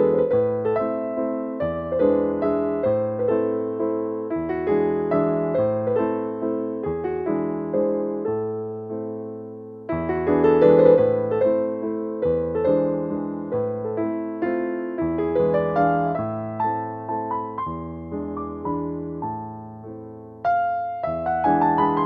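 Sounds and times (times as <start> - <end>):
soft slow piano tune: 0.0 - 22.0.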